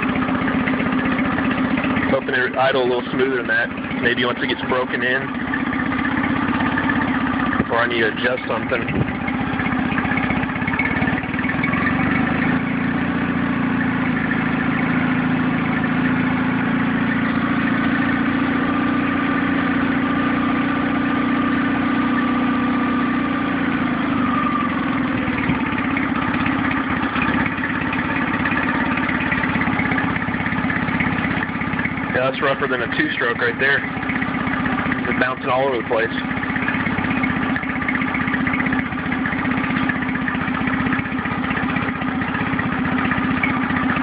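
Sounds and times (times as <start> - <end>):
outboard motor idling rough: 0.0 - 44.0.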